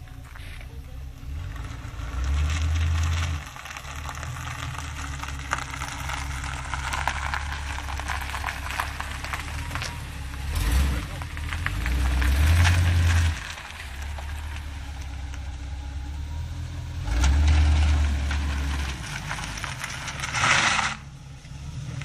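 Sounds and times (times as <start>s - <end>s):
exhaust crackling: 0.0s - 22.0s
open exhaust engine rumble: 0.0s - 22.0s.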